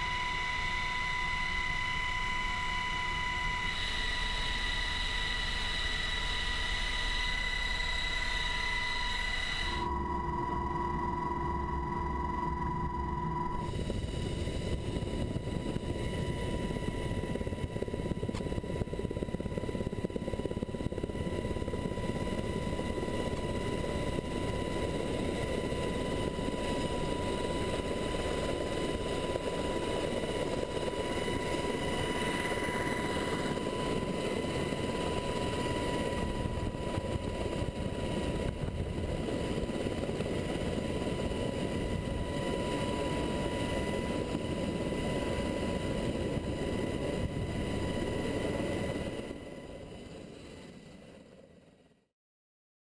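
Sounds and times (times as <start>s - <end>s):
high-pitched whine: 0.0s - 50.6s
helicopter rotor and engine rumble: 0.0s - 52.0s.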